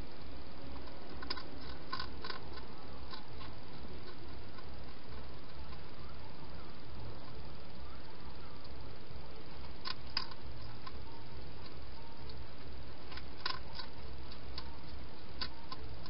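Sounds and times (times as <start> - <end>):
hedgehog crunching food: 0.0 - 16.0
low hum: 0.0 - 16.0.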